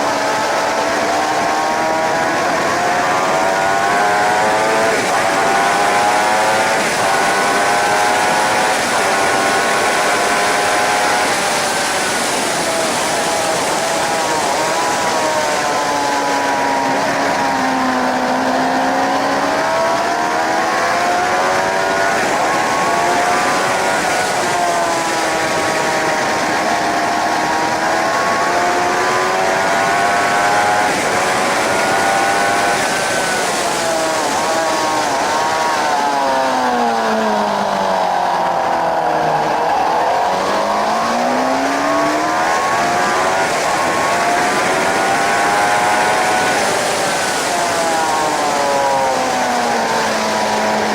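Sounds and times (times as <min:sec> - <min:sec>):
motorcycle engine revving: 0:00.0 - 0:50.9
steady rushing noise: 0:00.0 - 0:50.9.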